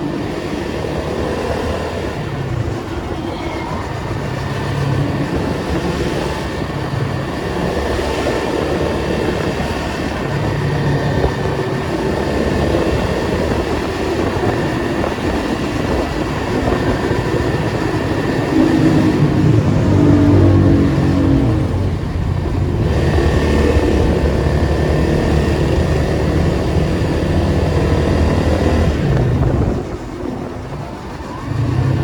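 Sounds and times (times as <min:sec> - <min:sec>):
car engine droning: 0:00.0 - 0:32.0
road noise: 0:00.0 - 0:32.0.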